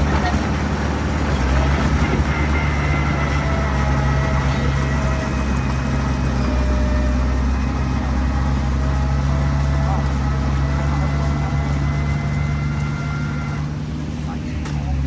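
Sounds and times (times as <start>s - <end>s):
bulldozer engine droning: 0.0s - 15.0s.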